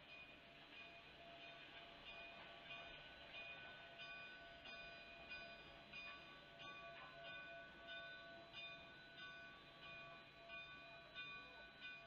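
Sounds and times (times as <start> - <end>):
distant steam locomotive bell ringing: 0.0 - 12.0.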